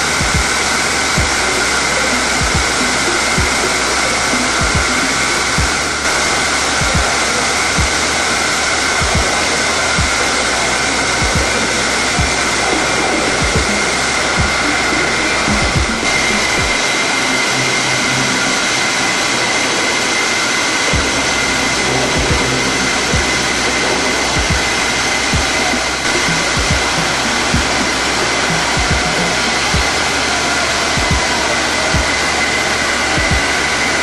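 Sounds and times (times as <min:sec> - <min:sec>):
high machine whine: 0:00.0 - 0:34.0
lathe machine rushing noise: 0:00.0 - 0:34.0.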